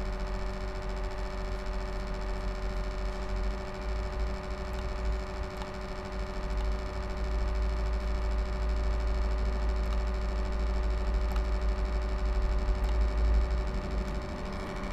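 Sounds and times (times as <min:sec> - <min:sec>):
laptop cooling fan whirring: 0:00.0 - 0:14.9.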